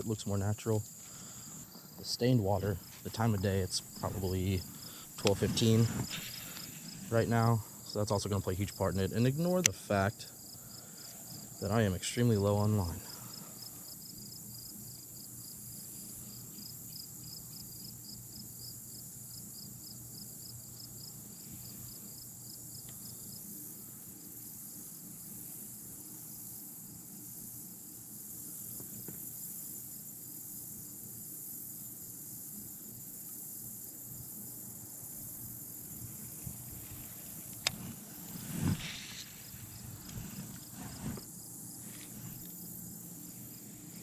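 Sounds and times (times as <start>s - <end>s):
faint steady hum: 0.0s - 44.0s
insect chirping in fast pulse: 0.0s - 44.0s.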